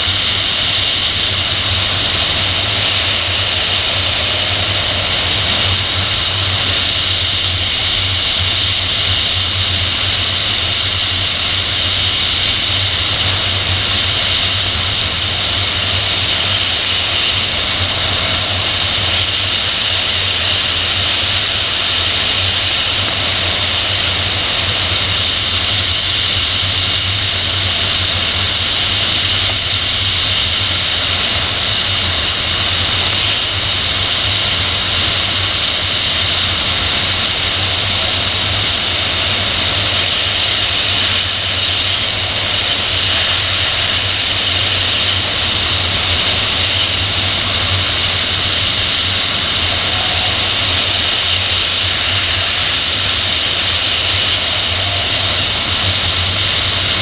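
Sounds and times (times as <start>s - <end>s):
airflow rushing over microphone: 0.0s - 57.0s.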